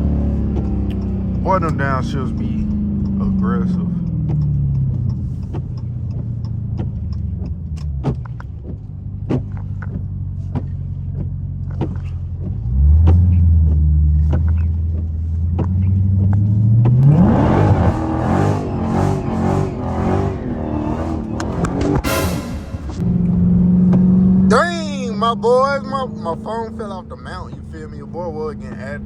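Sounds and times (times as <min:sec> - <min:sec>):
exhaust ticks and pops: 0:00.0 - 0:19.8, 0:23.8 - 0:29.0
car engine accelerating: 0:00.0 - 0:29.0.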